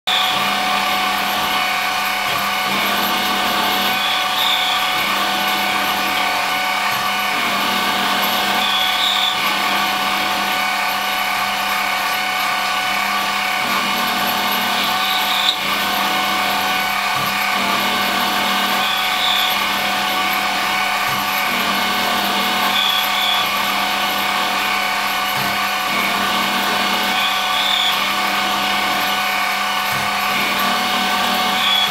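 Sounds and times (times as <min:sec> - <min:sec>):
lathe motor whine: 0:00.1 - 0:31.9.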